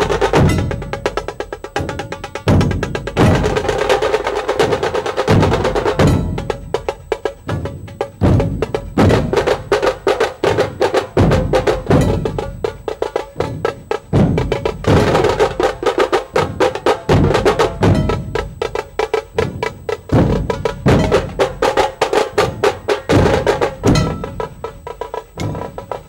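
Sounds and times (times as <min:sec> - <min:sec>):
deep dhol beats: 0:00.0 - 0:26.0
tasha drum roll: 0:00.0 - 0:26.0.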